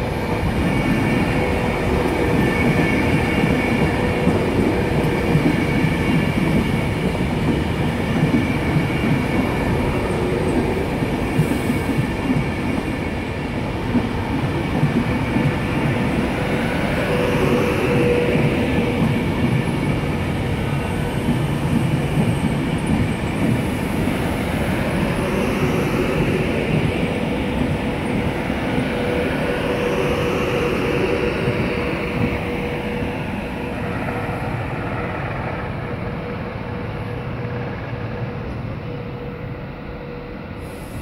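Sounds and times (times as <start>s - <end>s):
steady train whine: 0.0s - 41.0s
train wheels rumbling on rails: 0.0s - 41.0s.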